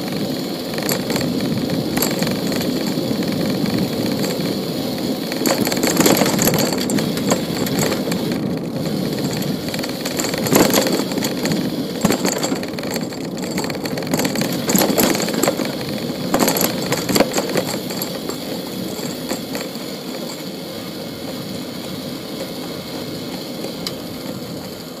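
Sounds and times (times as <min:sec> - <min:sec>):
bicycle knocks and rattles: 0:00.0 - 0:25.0
road and traffic rumble: 0:00.0 - 0:25.0.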